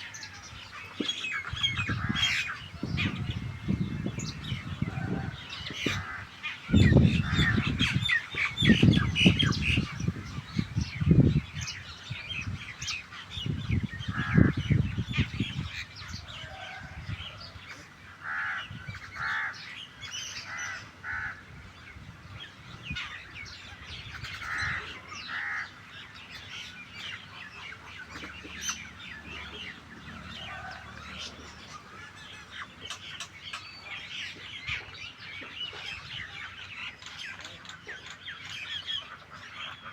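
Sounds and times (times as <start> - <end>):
starlings and mynas chattering: 0.0 - 39.9.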